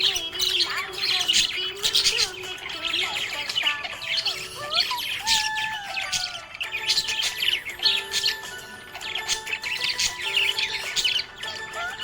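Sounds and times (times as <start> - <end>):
budgerigars chirping and warbling: 0.0 - 12.0.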